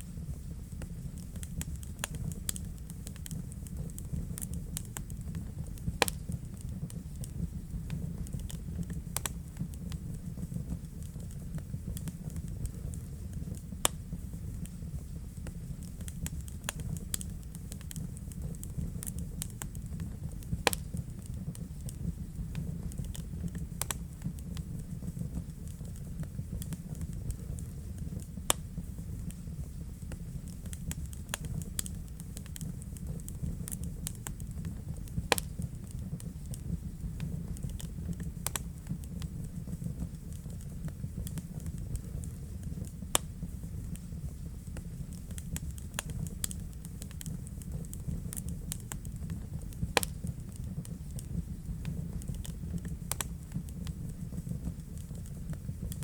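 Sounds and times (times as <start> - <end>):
fire crackling: 0.0 - 56.0
low rumble of flames: 0.0 - 56.0
loud fire pops: 0.1 - 56.0.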